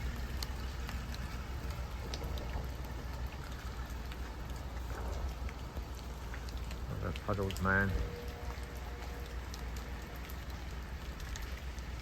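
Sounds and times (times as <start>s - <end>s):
car engine and tyres rumbling: 0.0s - 12.0s
rain drops ticking on car: 0.0s - 12.0s.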